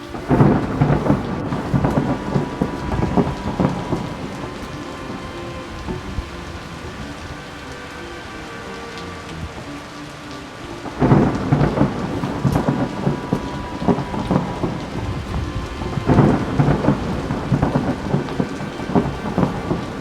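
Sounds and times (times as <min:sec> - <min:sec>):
thunder: 0:00.0 - 0:07.9, 0:10.8 - 0:20.0
dense crackling rain: 0:00.0 - 0:20.0.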